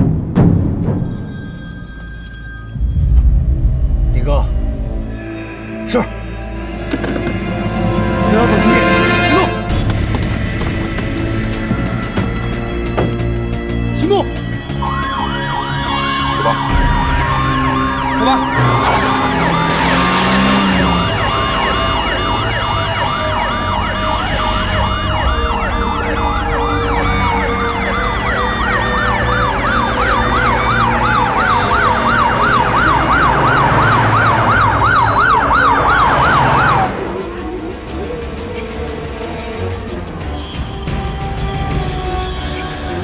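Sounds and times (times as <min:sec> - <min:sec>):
vehicle noise: 0:02.8 - 0:43.0
police sirens wailing and yelping: 0:06.9 - 0:43.0.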